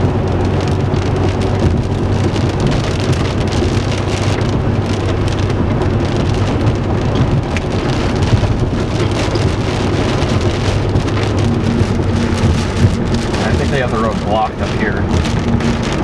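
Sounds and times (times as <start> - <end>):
rain pattering on a car: 0.0 - 16.0.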